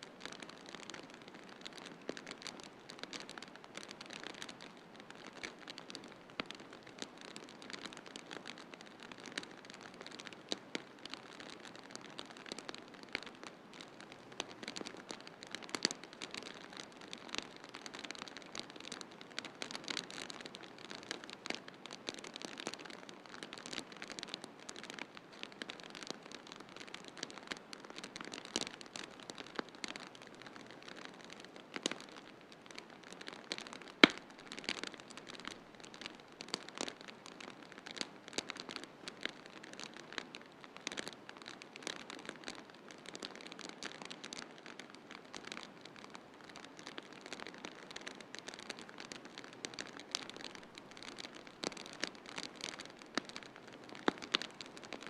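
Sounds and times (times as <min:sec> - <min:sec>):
wood fire crackling: 0:00.2 - 0:55.0.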